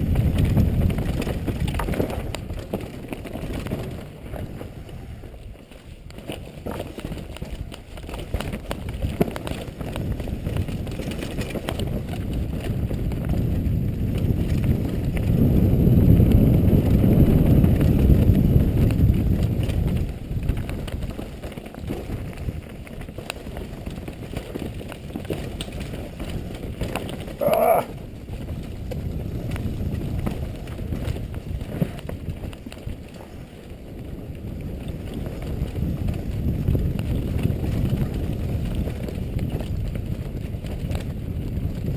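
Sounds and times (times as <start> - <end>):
bike rattling over rocks: 0.0 - 41.9
wind on microphone: 0.0 - 41.9.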